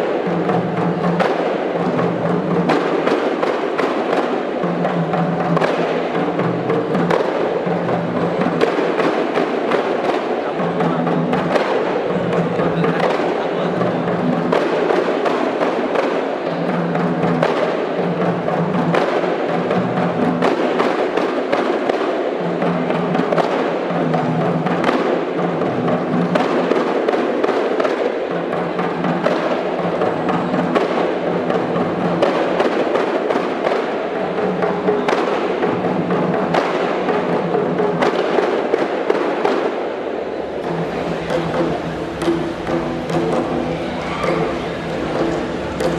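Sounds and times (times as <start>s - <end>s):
frame drums beaten by hand: 0.0s - 45.9s.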